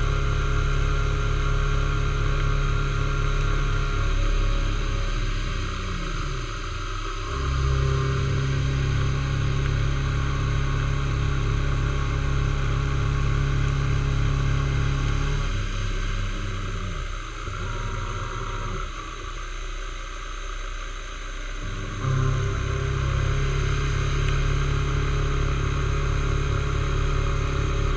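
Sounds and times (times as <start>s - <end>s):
milling machine cutting metal: 2.0s - 19.2s, 21.6s - 27.9s.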